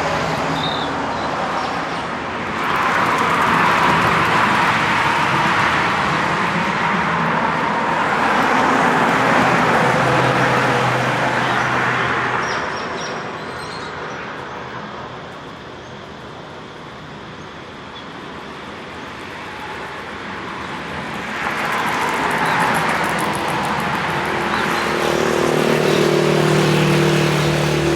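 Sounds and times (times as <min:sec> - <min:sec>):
vehicles passing with tyre noise: 0:00.0 - 0:27.9.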